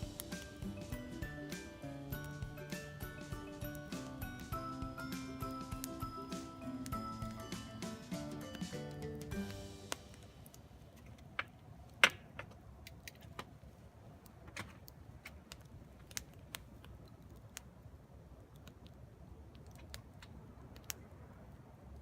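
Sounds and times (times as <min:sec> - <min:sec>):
faint low hiss: 0:00.0 - 0:22.0
wood fire crackling: 0:00.0 - 0:22.0.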